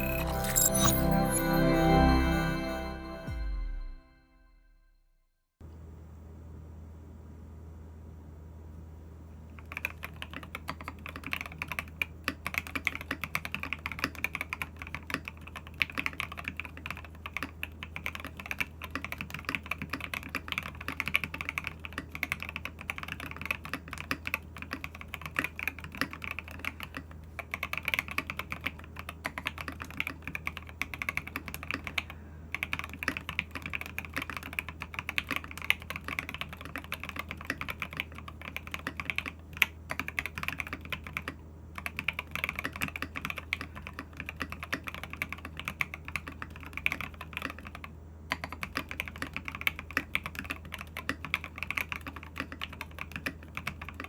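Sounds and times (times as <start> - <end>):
fast mechanical keyboard typing: 0.0 - 1.3, 9.6 - 54.0.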